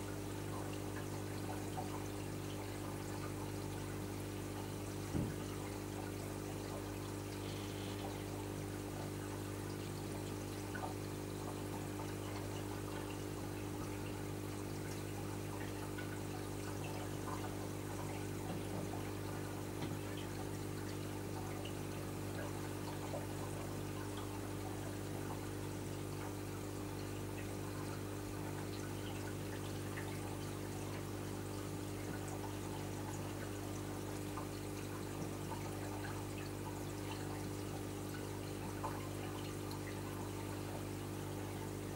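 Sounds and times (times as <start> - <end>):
low pump hum: 0.0 - 41.9
water trickling and pouring: 0.0 - 41.9.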